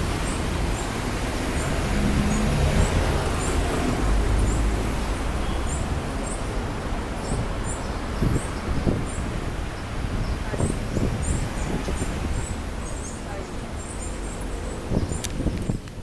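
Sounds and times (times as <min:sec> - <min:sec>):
low rumble of road traffic: 0:00.0 - 0:16.0
small birds chirping: 0:00.2 - 0:16.0.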